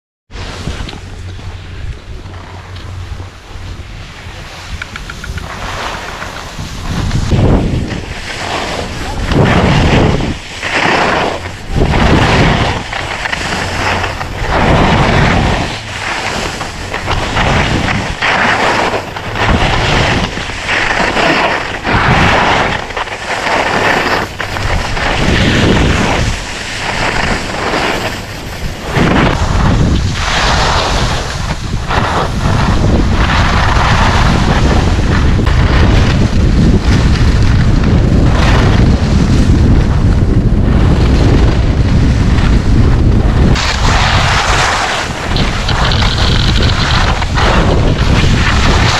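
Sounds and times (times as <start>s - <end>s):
wind buffeting microphone: 0.3s - 48.9s
skis scraping on packed snow: 0.4s - 48.9s.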